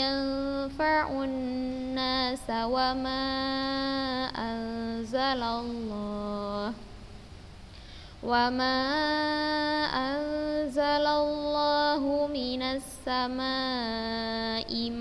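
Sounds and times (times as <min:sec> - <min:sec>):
woman chanting melodically: 0:00.0 - 0:06.9, 0:08.2 - 0:15.0.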